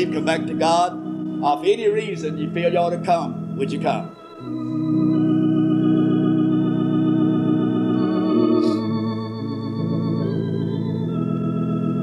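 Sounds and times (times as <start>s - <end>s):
hymn on church keyboard: 0.0s - 12.0s.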